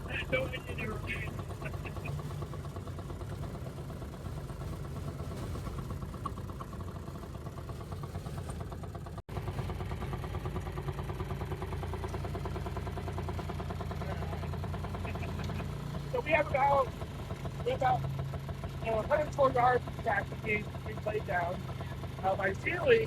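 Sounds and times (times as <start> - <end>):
small engine idling: 0.0 - 23.0.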